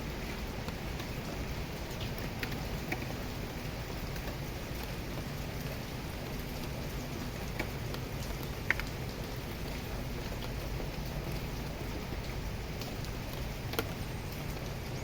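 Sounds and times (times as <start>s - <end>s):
rain falling steadily: 0.0s - 15.0s
sharp drips: 0.3s - 15.0s.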